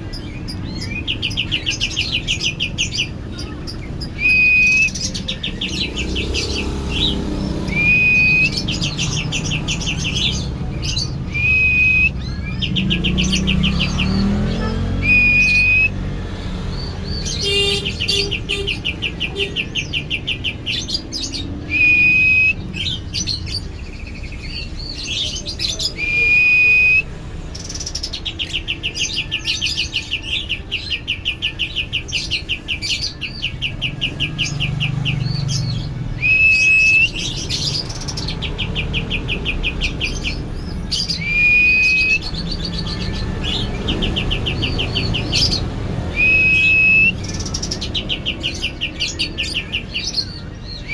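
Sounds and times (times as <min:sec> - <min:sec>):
songbird whistle and trill: 0:00.2 - 0:50.9.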